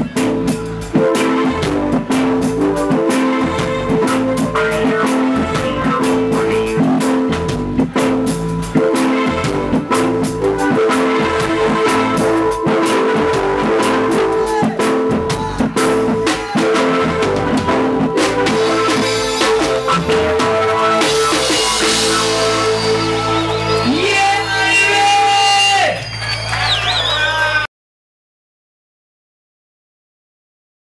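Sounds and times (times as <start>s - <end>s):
live reggae band: 0.0s - 27.6s.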